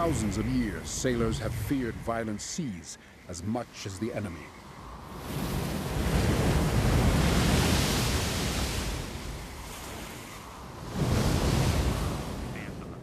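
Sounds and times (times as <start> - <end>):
waves breaking: 0.0 - 13.0
wind: 0.0 - 13.0.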